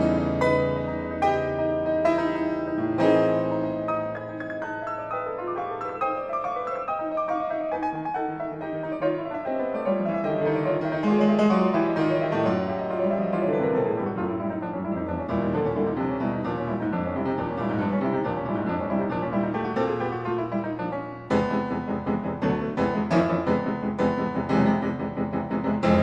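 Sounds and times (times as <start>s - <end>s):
solo classical piano: 0.0s - 26.0s.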